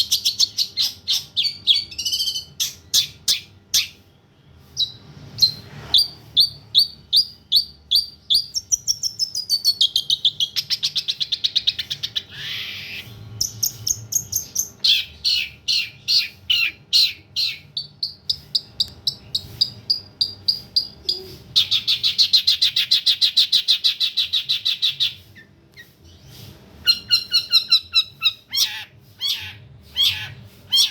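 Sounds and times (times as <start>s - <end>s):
songbird chirping and trilling: 0.0s - 30.9s.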